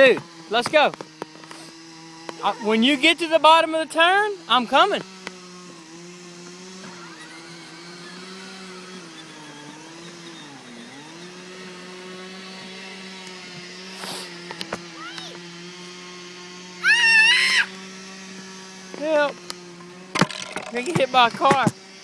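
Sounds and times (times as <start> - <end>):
ride-on vehicle motor whine: 0.0 - 22.0.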